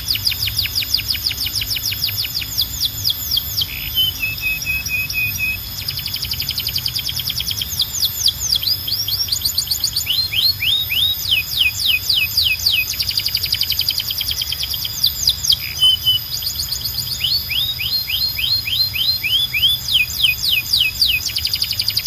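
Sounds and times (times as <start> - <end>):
canary singing trills and whistles: 0.0 - 22.0.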